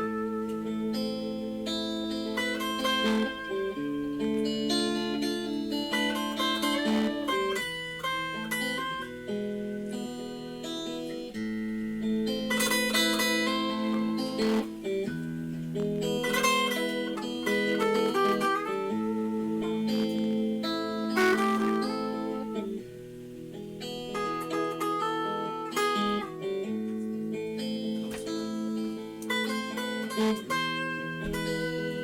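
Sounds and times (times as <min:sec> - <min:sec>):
solo acoustic guitar: 0:00.0 - 0:32.0.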